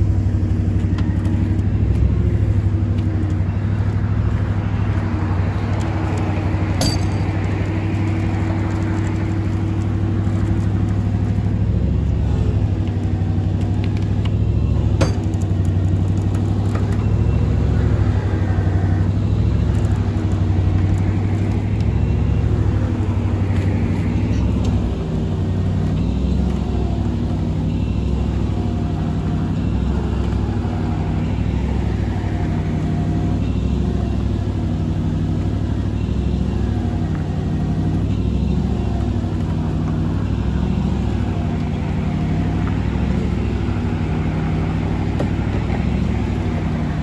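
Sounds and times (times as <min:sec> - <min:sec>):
vehicle engine droning: 0:00.0 - 0:47.0.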